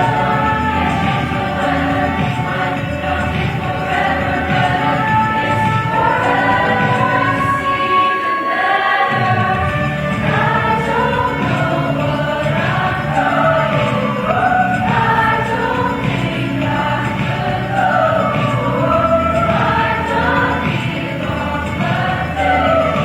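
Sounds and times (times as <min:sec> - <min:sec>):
choir singing pop song: 0:00.0 - 0:23.0.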